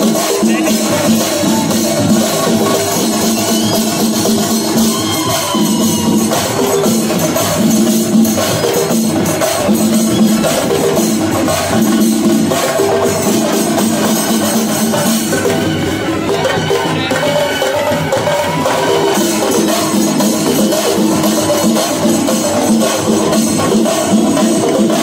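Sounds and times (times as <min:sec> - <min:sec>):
wind instrument melody: 0:00.0 - 0:11.4, 0:12.5 - 0:22.1
cymbals clashing: 0:00.0 - 0:25.0
drumming: 0:00.0 - 0:25.0.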